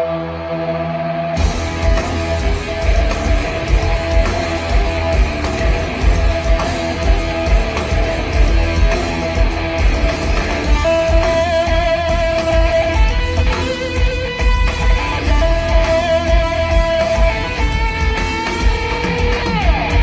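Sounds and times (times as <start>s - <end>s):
rock music: 0.0s - 20.0s
strummed electric guitar: 0.0s - 20.0s
pulsing bass beat: 1.4s - 20.0s.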